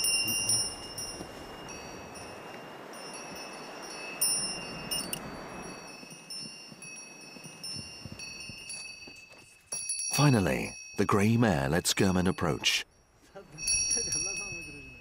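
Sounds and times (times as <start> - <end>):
chimes ringing: 0.0 - 15.0.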